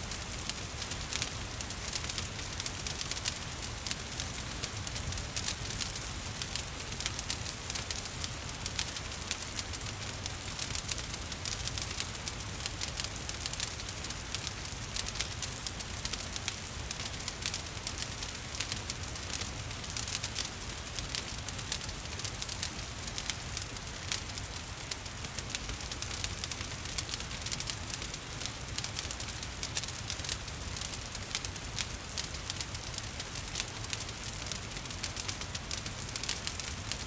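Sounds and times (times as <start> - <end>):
gentle rain: 0.0 - 37.0
wood fire crackling and popping: 0.1 - 37.0.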